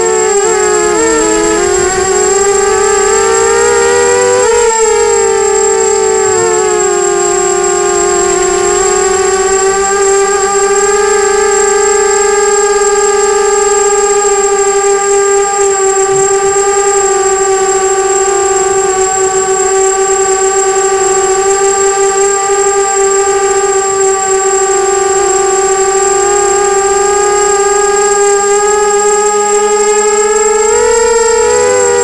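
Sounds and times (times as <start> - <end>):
quadcopter propellers whining: 0.0 - 32.0.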